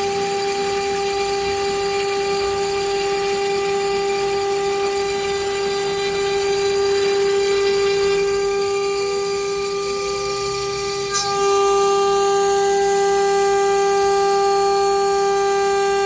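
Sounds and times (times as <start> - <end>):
spindle whine: 0.0 - 16.0.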